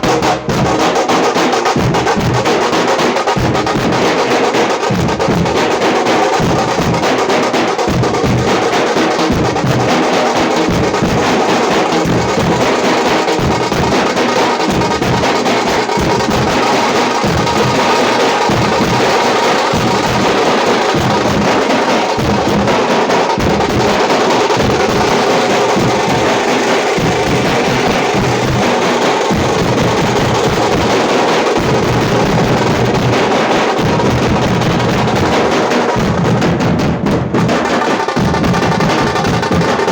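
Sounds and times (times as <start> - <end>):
stick-beaten frame drums: 0.0 - 39.9.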